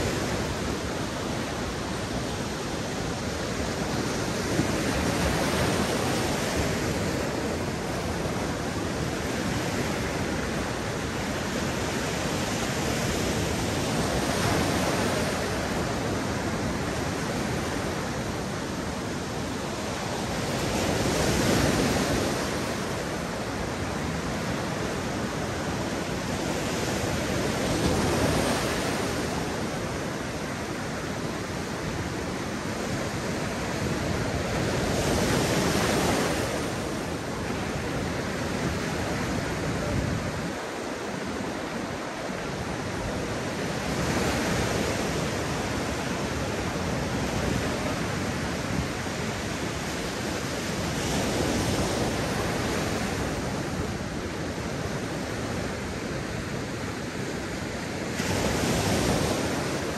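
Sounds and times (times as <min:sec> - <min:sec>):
surf washing onto beach: 0:00.0 - 0:59.9.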